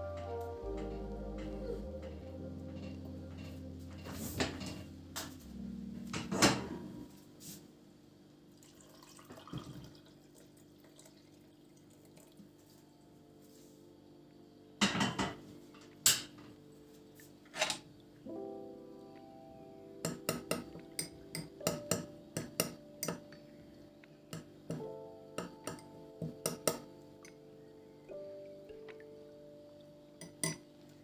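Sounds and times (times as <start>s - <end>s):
faint background music: 0.0s - 31.0s.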